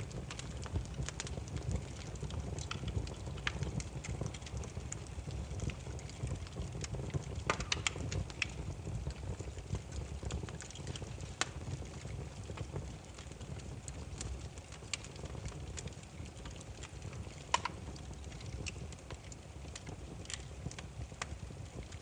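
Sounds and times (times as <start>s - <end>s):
campfire crackling and popping: 0.0s - 22.0s
low rumble of burning logs: 0.0s - 22.0s.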